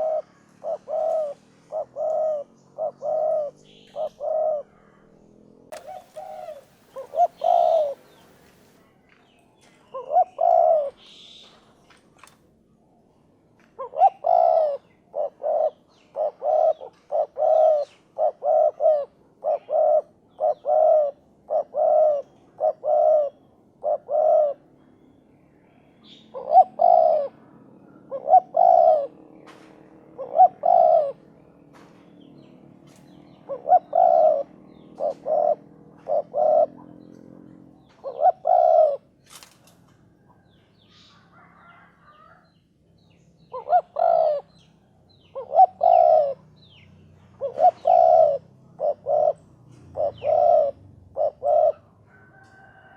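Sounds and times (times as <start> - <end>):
dove cooing: 0.0 - 8.8, 9.9 - 11.6, 13.8 - 24.9, 26.0 - 32.0, 32.9 - 39.4, 43.4 - 44.6, 45.2 - 52.9.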